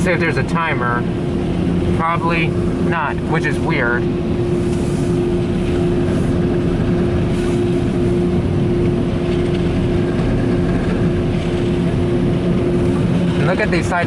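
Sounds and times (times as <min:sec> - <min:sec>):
air-dryer blowers roaring: 0:00.0 - 0:14.0.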